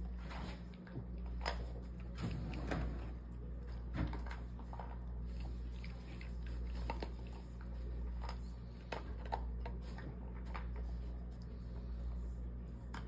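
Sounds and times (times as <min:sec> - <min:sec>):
dog crunching dry kibble: 0:00.0 - 0:11.6.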